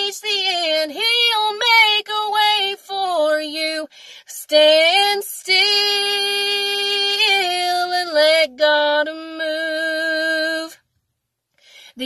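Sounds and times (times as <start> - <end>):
woman singing gospel song: 0.0 - 10.8.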